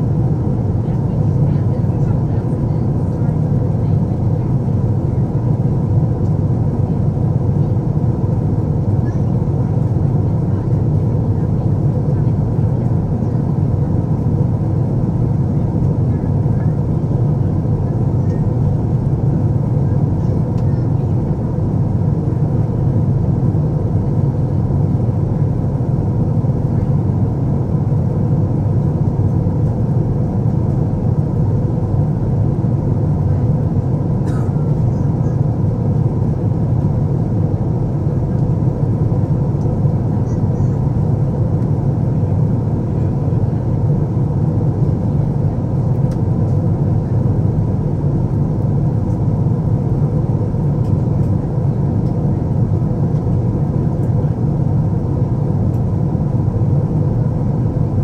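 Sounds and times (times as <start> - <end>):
aircraft cabin roar: 0.0 - 58.0.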